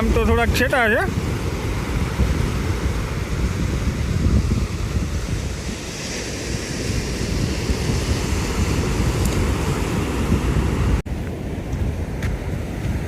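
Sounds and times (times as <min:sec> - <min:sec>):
sea waves washing on shore: 0:00.0 - 0:13.0
wind gusting against microphone: 0:00.0 - 0:13.0.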